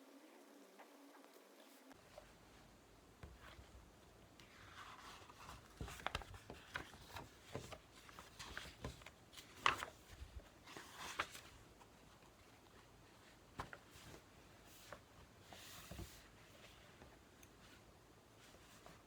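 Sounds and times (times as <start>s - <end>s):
faint clicks and rustling of handling: 0.3s - 19.0s.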